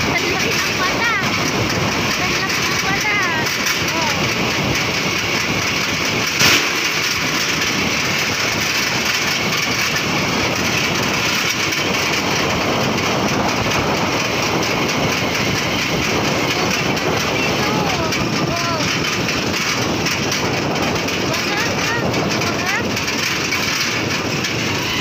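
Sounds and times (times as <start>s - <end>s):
motorcycle running: 0.0s - 25.0s
rushing wind noise: 0.0s - 25.0s.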